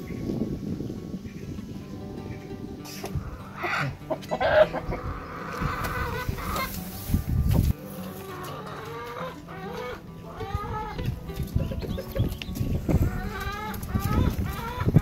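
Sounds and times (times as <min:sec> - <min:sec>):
hens clucking: 0:02.3 - 0:15.0.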